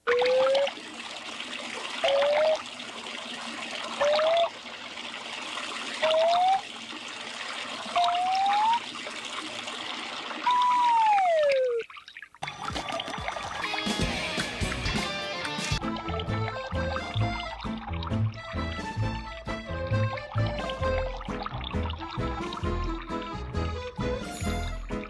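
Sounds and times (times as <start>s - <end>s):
water pouring into a cup: 0.0s - 15.0s, 15.8s - 25.0s.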